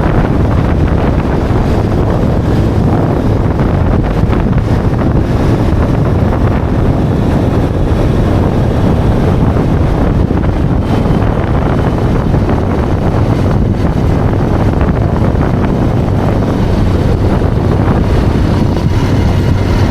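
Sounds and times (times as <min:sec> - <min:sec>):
motorcycle engine running: 0:00.0 - 0:19.9
wind buffeting microphone: 0:00.0 - 0:19.9.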